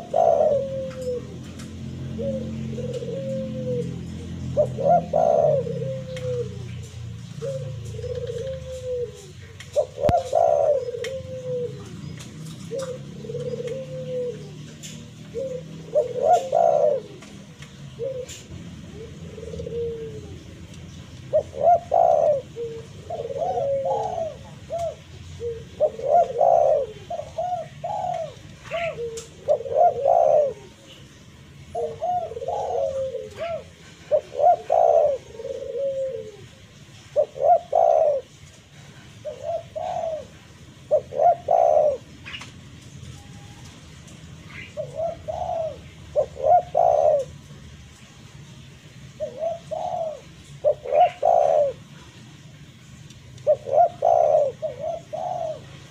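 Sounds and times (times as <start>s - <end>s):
dove cooing: 0.0s - 47.8s, 48.5s - 55.9s.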